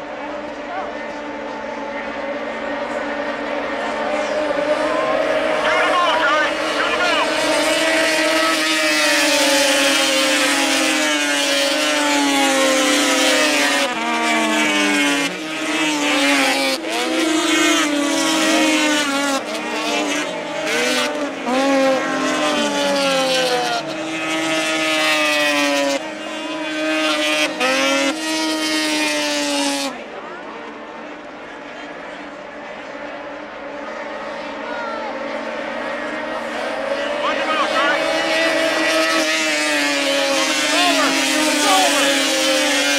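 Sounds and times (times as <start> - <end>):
racing engines passing: 0.0 - 42.9.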